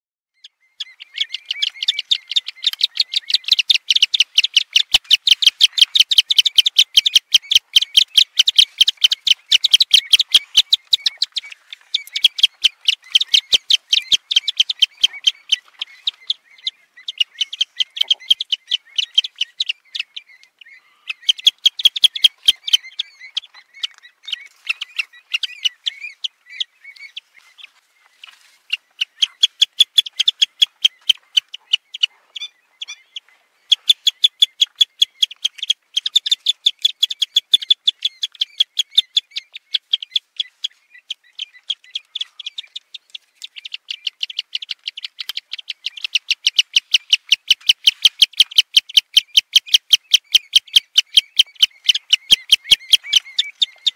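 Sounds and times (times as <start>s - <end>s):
birds calling in rapid notes: 0.4s - 53.9s.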